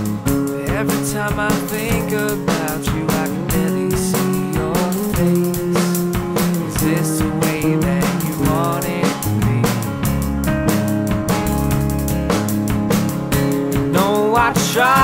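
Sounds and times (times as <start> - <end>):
drum kit beat: 0.0 - 15.0
indie rock song: 0.0 - 15.0
sliding guitar lead melody: 0.0 - 15.0.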